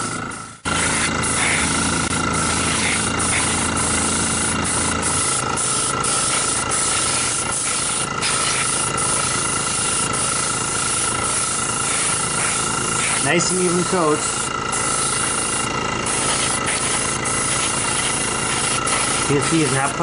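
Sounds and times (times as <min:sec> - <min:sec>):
airbrush hissing: 0:00.0 - 0:20.0.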